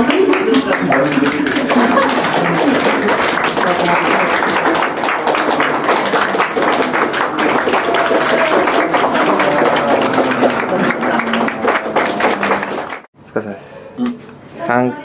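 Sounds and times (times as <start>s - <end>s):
people clapping quickly: 0.0s - 13.1s
voices calling out: 0.6s - 13.1s.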